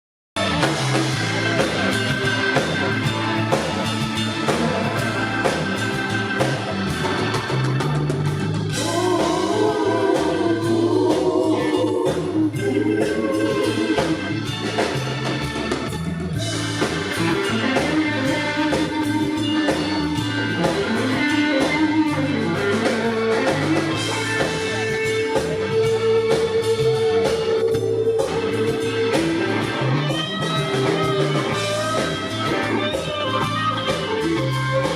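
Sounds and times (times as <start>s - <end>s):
blues-rock band playing: 0.4s - 34.9s
electric guitar line: 0.4s - 34.9s.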